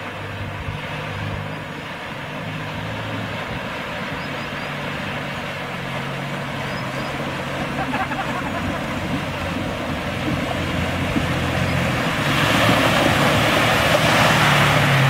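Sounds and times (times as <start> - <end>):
car engine running at low revs: 0.0 - 15.0
water rushing and splashing: 0.0 - 15.0.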